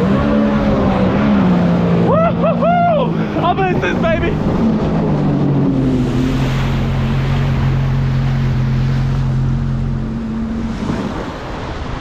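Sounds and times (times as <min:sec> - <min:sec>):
jet ski engine: 0:00.0 - 0:12.0
water wash: 0:00.0 - 0:12.0
wind on microphone: 0:00.0 - 0:12.0.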